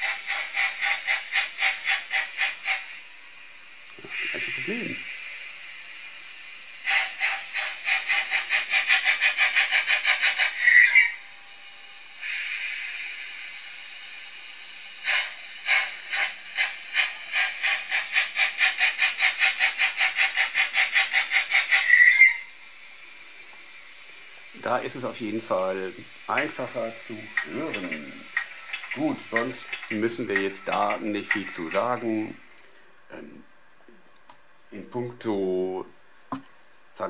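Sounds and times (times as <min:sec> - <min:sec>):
steam hiss: 0:00.0 - 0:11.1, 0:12.1 - 0:33.4
model train steam chuffing: 0:00.0 - 0:11.2, 0:11.9 - 0:33.4.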